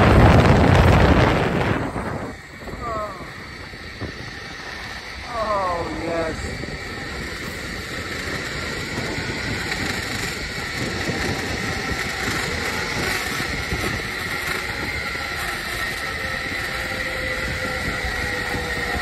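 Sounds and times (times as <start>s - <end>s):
zipline pulleys whirring on cable: 0.0s - 19.0s.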